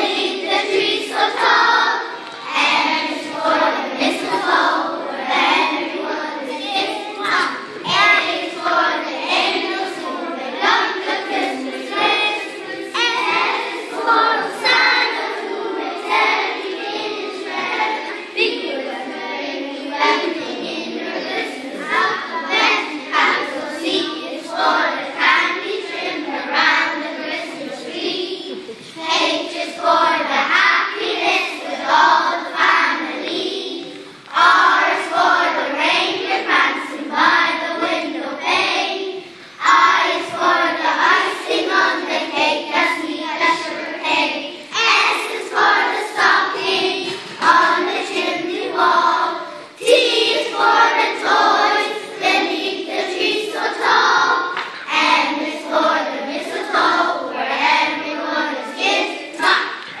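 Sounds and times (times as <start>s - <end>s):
young children singing: 0.0s - 60.0s.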